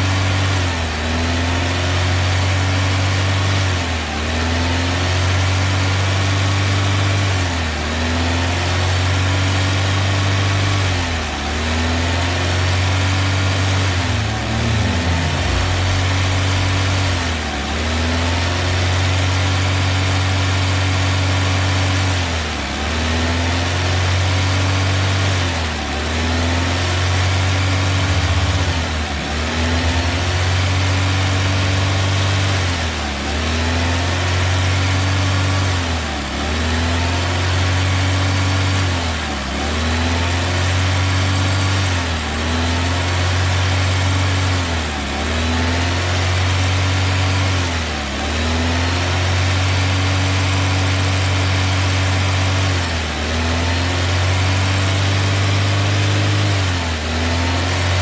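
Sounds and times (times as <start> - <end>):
car engine running with pitch dips: 0.0 - 58.0.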